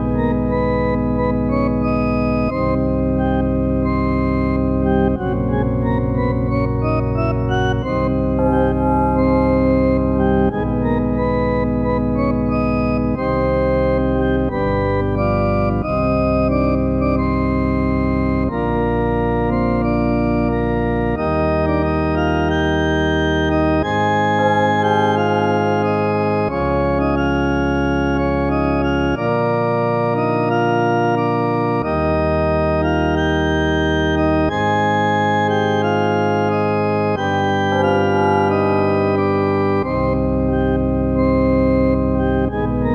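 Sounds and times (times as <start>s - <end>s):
organ chords: 0.0s - 42.9s.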